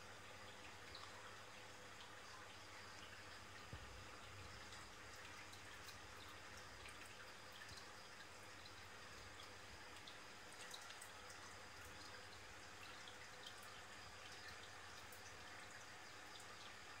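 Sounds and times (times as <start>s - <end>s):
faint aquarium water noise: 0.0s - 17.0s
soft drip-like ticks: 0.0s - 17.0s.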